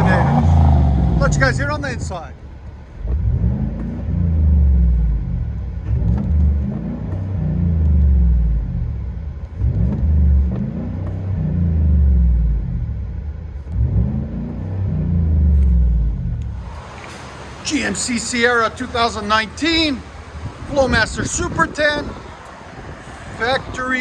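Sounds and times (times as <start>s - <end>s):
truck engine drone from inside cab: 0.0s - 24.0s.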